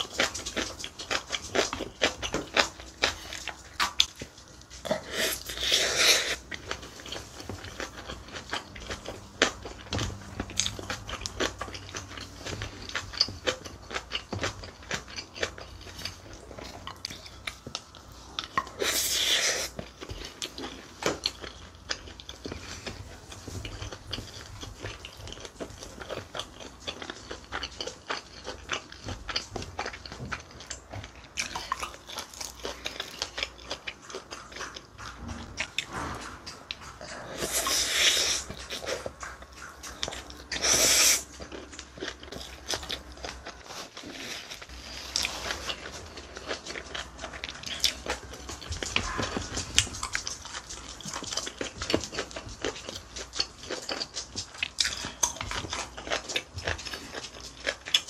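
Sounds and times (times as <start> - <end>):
person chewing wet food: 0.0 - 58.0.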